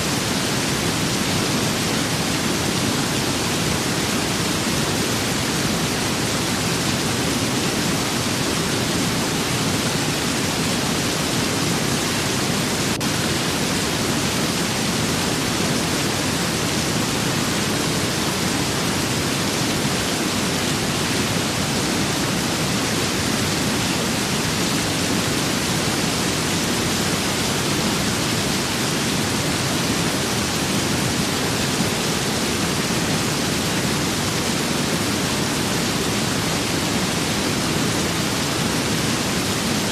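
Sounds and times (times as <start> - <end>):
steady rain with wind: 0.0 - 39.9.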